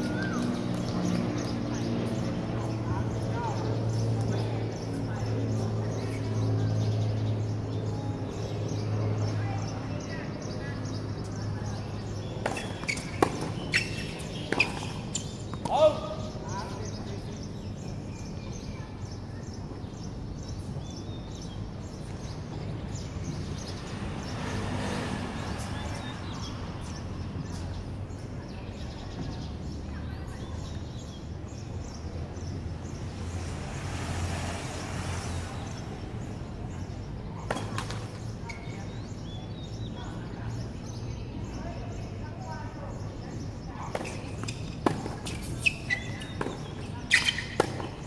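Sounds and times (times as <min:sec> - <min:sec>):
outdoor background noise: 0:00.0 - 0:48.0.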